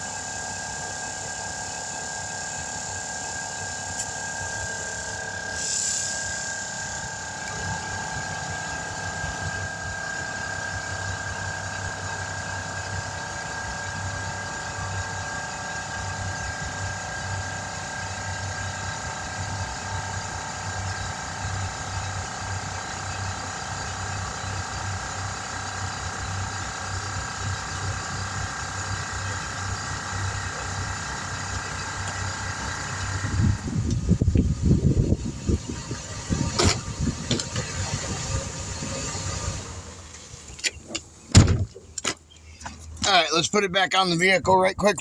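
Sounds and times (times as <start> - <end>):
engine running pulsing hum: 0.0 - 45.0.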